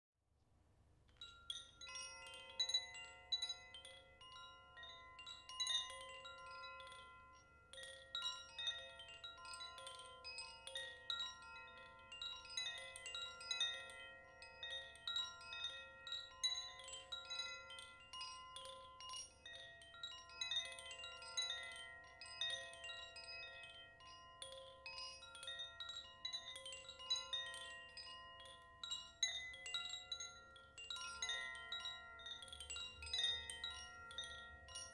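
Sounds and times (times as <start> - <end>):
wind chime ringing: 1.2 - 34.9.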